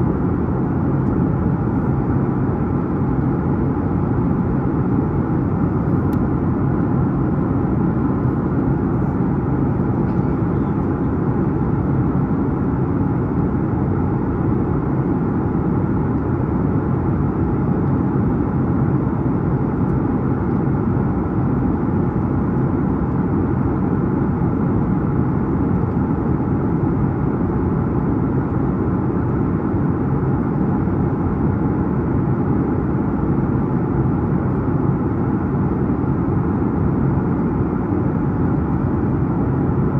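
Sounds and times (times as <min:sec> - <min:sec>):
jet engine drone: 0:00.0 - 0:39.9.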